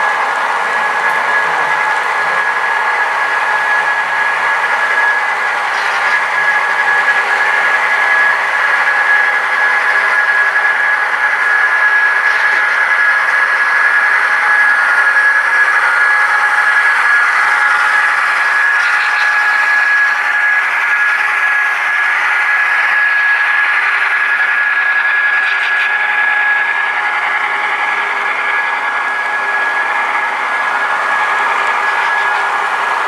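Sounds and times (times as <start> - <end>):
high whine of electric motors: 0.0 - 33.0.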